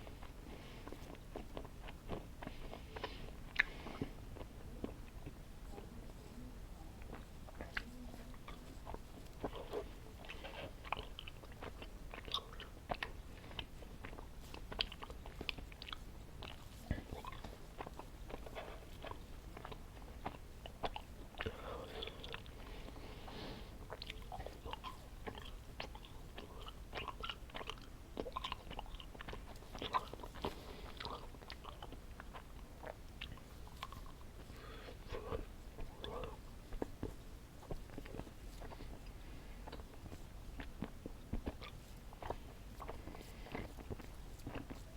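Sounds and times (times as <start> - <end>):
person chewing candy: 0.0 - 5.8, 7.0 - 44.9.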